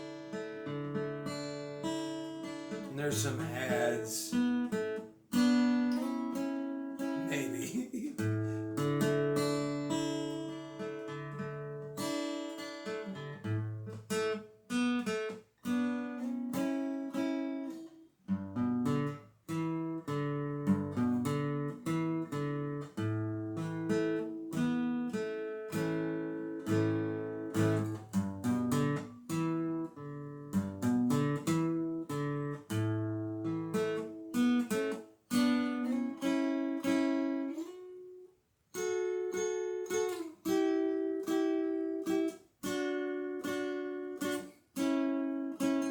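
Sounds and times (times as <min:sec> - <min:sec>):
acoustic guitar picking chords: 0:00.0 - 0:45.9.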